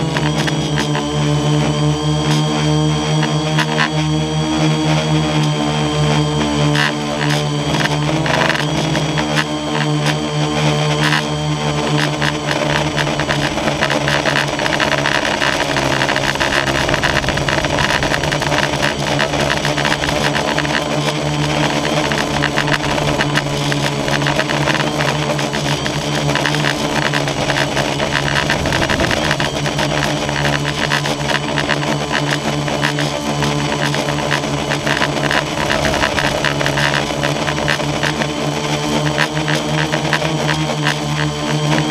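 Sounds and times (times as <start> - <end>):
drone propellers buzzing: 0.0 - 41.9.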